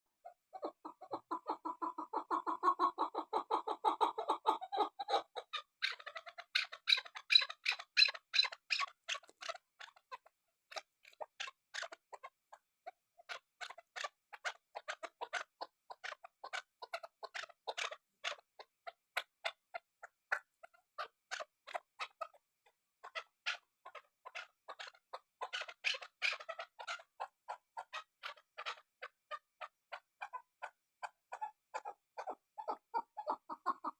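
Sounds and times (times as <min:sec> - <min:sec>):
partridge clucking calls: 0:00.2 - 0:33.9.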